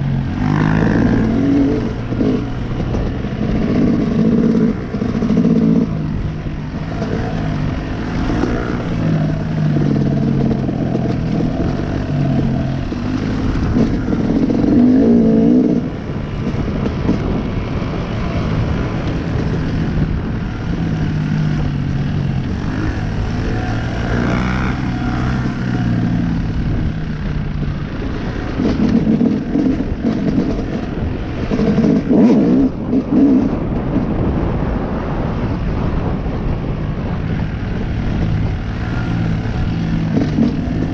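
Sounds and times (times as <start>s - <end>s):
dirt bike engine revving: 0.0s - 27.4s, 28.0s - 33.7s, 38.0s - 40.9s.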